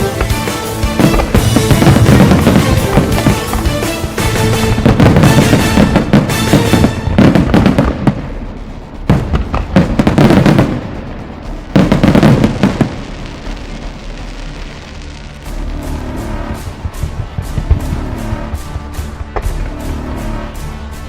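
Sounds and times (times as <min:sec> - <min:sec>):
fireworks crackling bangs: 0:00.0 - 0:20.8.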